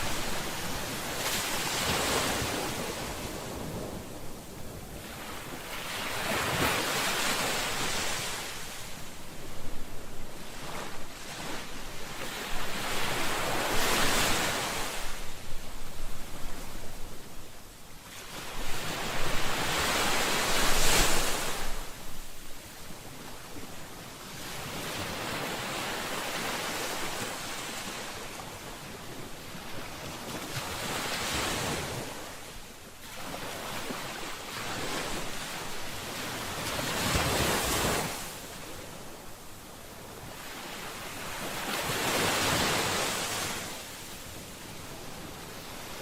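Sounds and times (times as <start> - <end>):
ocean waves breaking on shore: 0.0 - 46.0.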